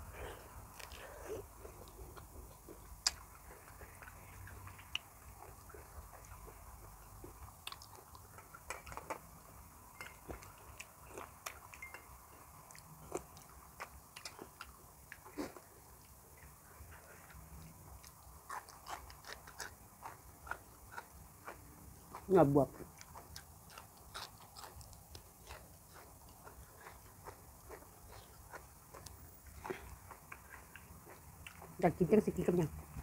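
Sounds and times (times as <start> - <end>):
person chewing crunchy food: 0.0 - 31.8.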